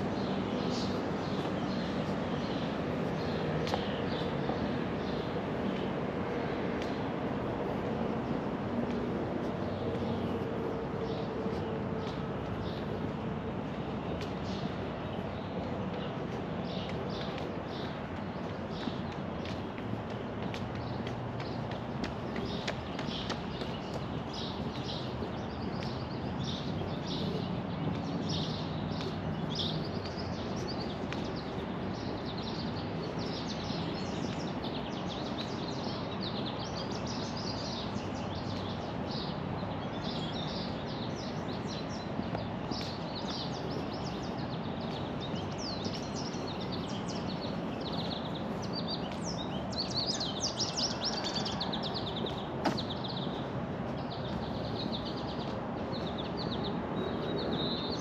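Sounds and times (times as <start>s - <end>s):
outdoor background noise: 0.0s - 58.0s
songbirds chirping and singing: 0.0s - 58.0s.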